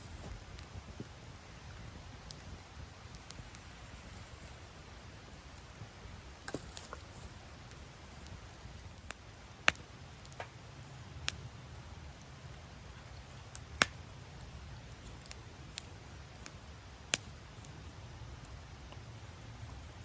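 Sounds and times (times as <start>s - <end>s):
low steady rumble: 0.0s - 20.0s
wood fire crackling and popping: 0.0s - 20.0s.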